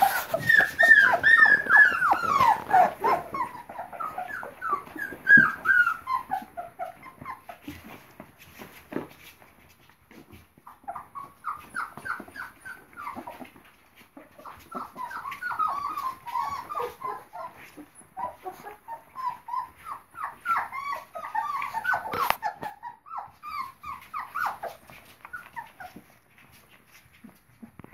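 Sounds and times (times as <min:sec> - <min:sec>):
puppies whimpering and squeaking: 0:00.0 - 0:27.9.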